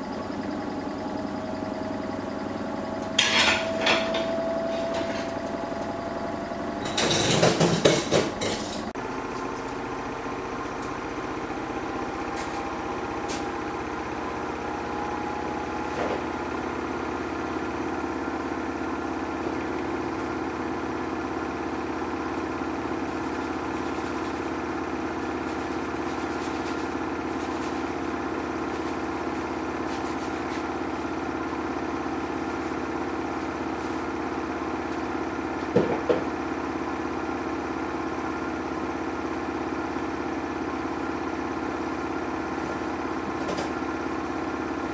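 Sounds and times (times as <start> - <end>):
washing machine motor hum: 0.0 - 44.9.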